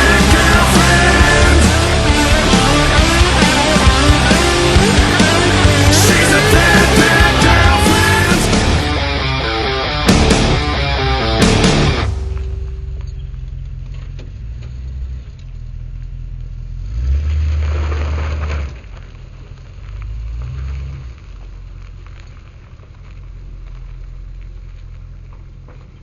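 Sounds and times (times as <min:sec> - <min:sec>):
pickup engine revving: 0:00.0 - 0:25.5.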